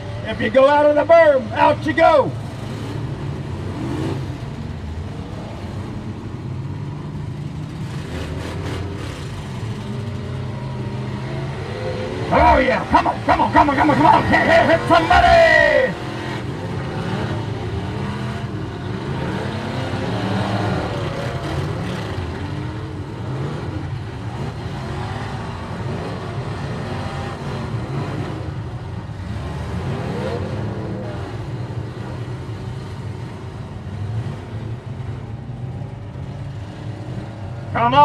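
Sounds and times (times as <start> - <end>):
car engines droning: 0.0 - 38.0
engines revving: 0.0 - 38.0.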